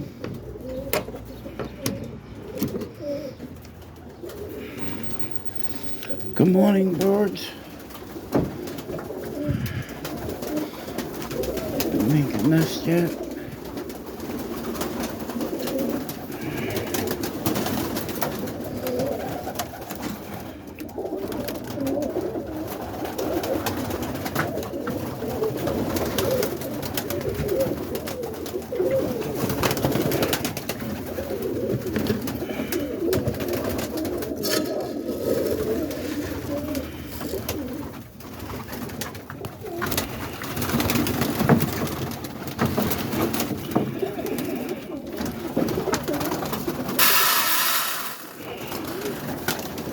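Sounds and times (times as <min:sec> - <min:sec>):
birds rustling and clicking: 0:00.0 - 0:49.9
pigeons cooing: 0:00.0 - 0:49.9.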